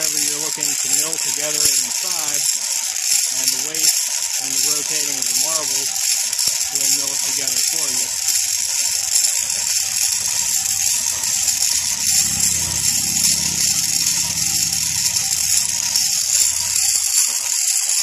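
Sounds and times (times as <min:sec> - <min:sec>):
glass marbles rattling in jar: 0:00.0 - 0:18.0
motor humming: 0:00.0 - 0:18.0.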